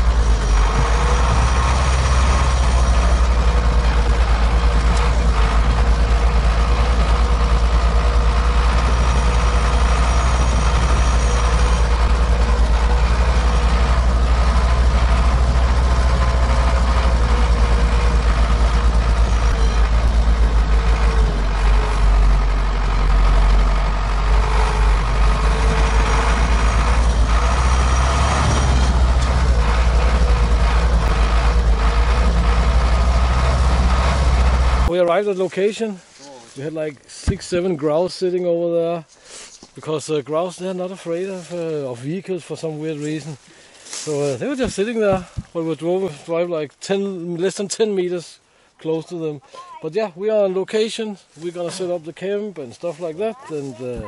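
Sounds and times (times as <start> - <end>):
tracked vehicle engine drone: 0.0 - 47.6.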